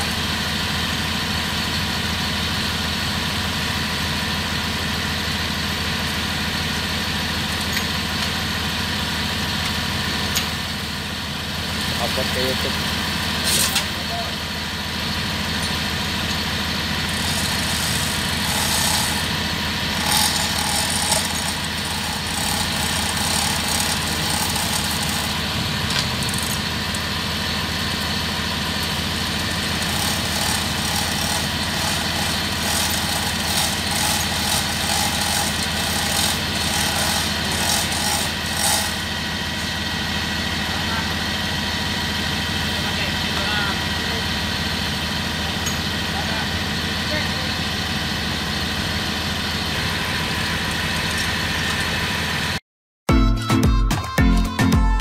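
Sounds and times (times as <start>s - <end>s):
diesel engine idling: 0.0s - 52.6s.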